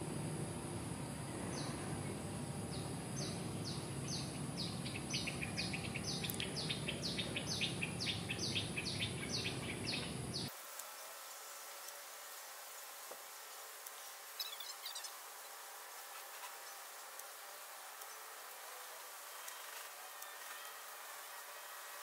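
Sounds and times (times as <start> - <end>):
faint hiss: 0.0 - 22.0
high insect hum: 0.0 - 22.0.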